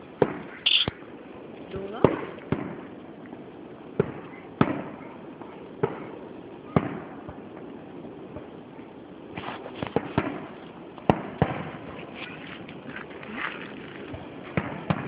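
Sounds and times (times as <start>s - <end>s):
fireworks bursting with echoes: 0.0s - 15.0s.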